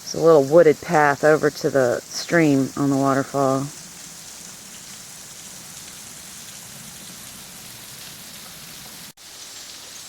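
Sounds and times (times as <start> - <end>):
stream and waterfall rushing: 0.0 - 10.0.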